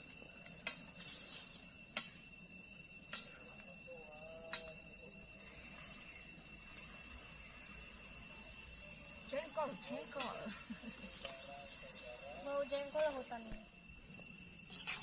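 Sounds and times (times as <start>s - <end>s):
forest insects chorus: 0.0s - 15.0s.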